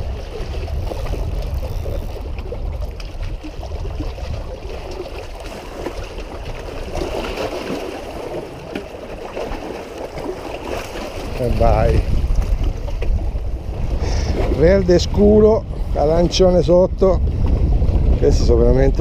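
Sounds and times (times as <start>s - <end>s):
small waves lapping against rocks: 0.0s - 19.0s
wind rumble on microphone: 0.0s - 19.0s.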